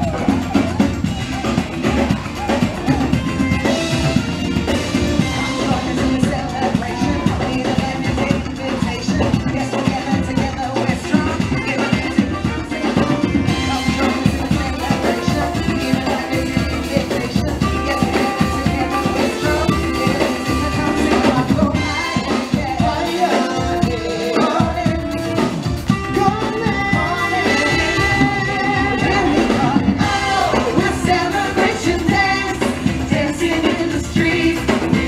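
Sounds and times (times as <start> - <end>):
drum kit: 0.0 - 35.0
electric guitar: 0.0 - 35.0
person singing: 0.0 - 35.0.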